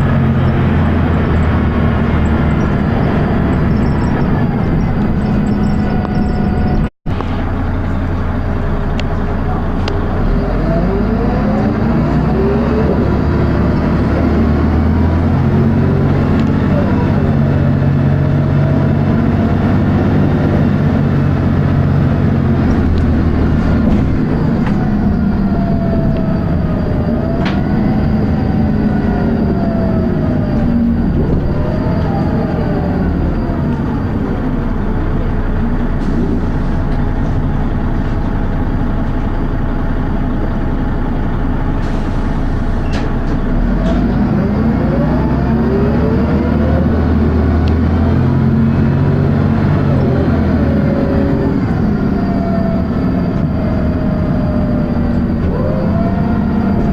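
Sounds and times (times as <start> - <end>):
bus engine drone and gearbox whine: 0.0 - 56.9.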